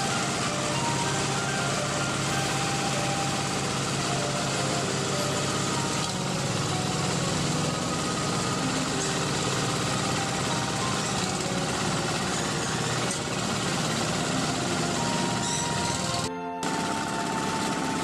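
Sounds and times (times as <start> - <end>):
small tractor engine running: 0.0 - 18.0.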